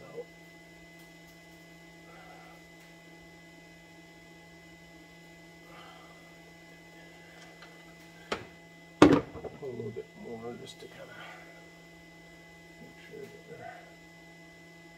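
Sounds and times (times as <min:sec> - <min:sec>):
faint electrical hum: 0:00.0 - 0:14.9.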